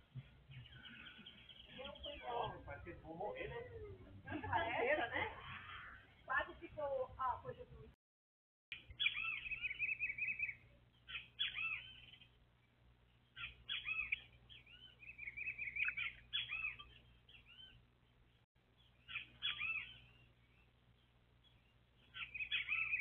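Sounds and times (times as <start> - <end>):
songbirds chirping and trilling: 0.0 - 8.0, 8.7 - 23.0.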